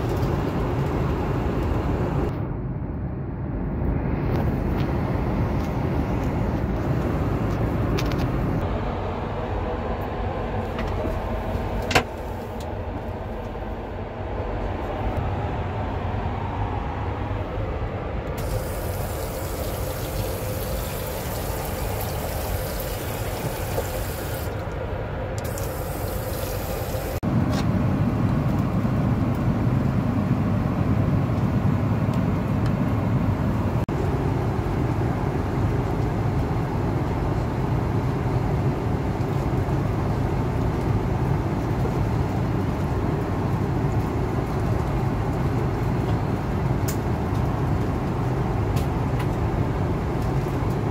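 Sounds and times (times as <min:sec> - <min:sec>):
airplane cabin noise: 0:00.0 - 0:50.9.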